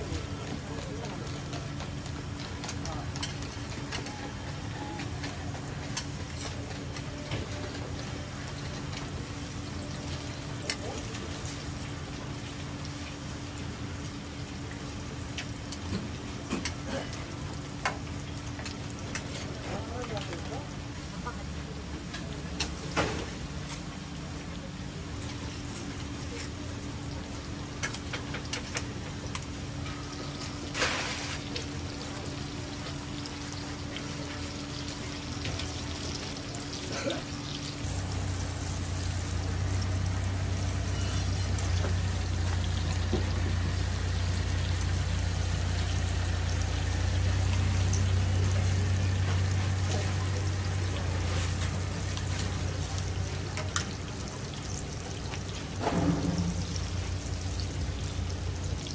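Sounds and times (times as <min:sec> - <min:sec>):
patties sizzling on a griddle: 0:04.8 - 0:58.9.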